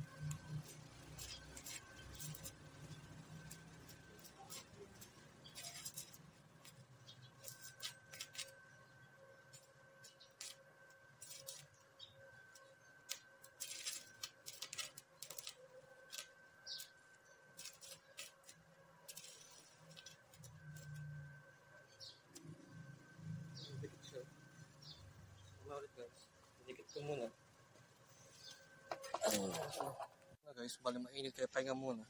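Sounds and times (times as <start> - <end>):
arc welder crackling: 0.0 - 30.3.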